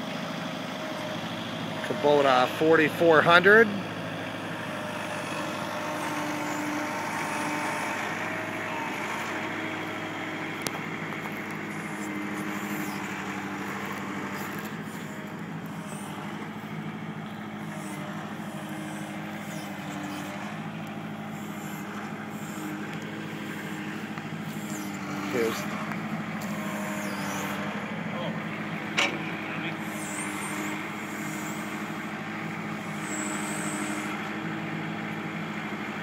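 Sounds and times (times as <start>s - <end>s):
tractor diesel engine running: 0.0s - 36.0s
high whining tones: 5.0s - 34.2s.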